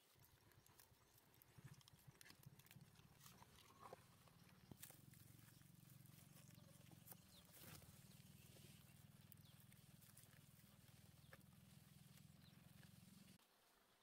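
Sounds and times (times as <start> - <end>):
faint low hum: 0.1 - 14.0.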